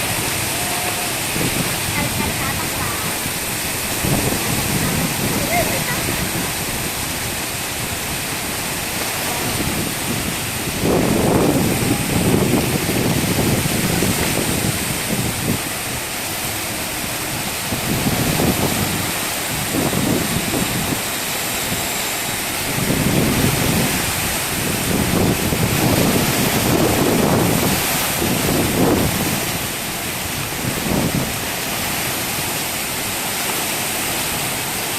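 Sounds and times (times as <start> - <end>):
heavy rain pouring: 0.0 - 34.9
strong wind gusts: 0.0 - 34.9.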